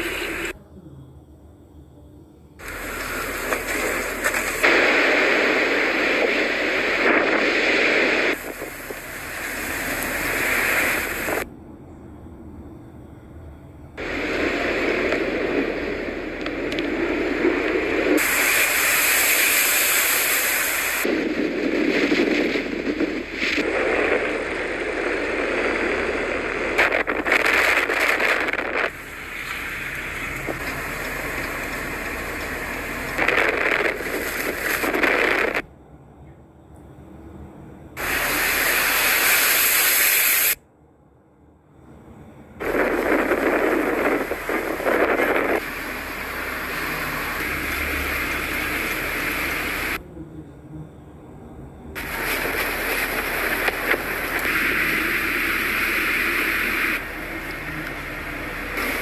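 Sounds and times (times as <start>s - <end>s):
blizzard wind buffeting microphone: 0.0s - 0.6s, 2.6s - 35.8s, 37.9s - 40.6s, 42.2s - 50.0s, 51.7s - 59.0s.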